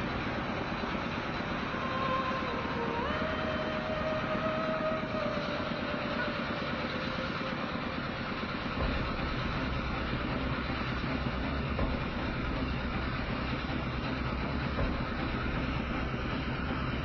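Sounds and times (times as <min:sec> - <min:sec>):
deep rumble: 0:01.6 - 0:17.0.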